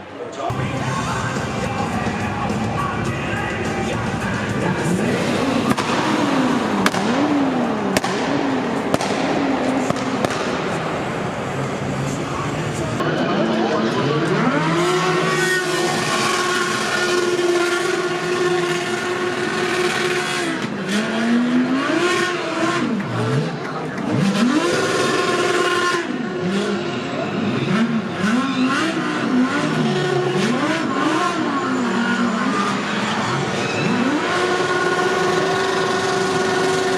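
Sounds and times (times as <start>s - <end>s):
race car engine revving: 0.1s - 36.9s.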